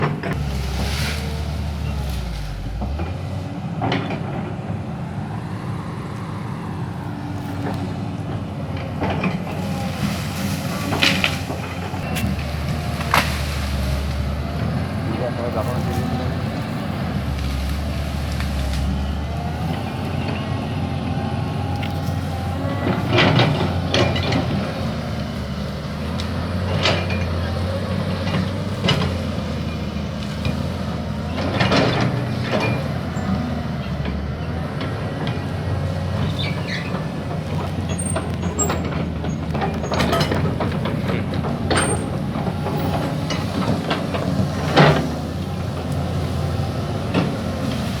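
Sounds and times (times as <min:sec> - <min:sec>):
excavator digging knocks and scrapes: 0:00.0 - 0:05.0, 0:07.4 - 0:48.0
excavator diesel engine running: 0:00.0 - 0:48.0.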